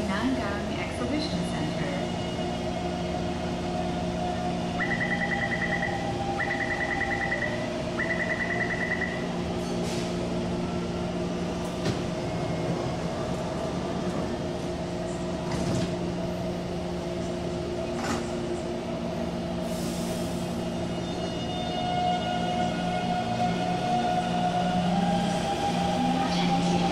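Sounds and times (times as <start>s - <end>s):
electric hum of subway train: 0.0s - 26.9s.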